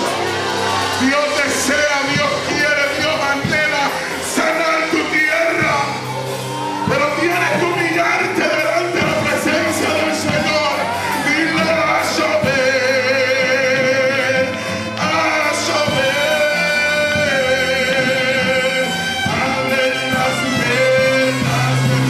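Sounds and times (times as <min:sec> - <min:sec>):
instrumental accompaniment: 0:00.0 - 0:22.0
man singing with vibrato: 0:00.0 - 0:22.0.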